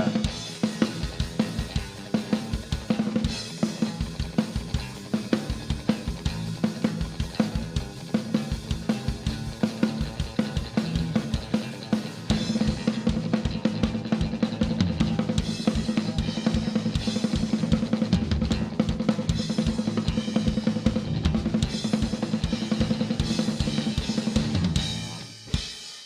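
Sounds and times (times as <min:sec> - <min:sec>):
rapid busy drumming: 0:00.0 - 0:26.0
rock band playing: 0:00.0 - 0:26.0.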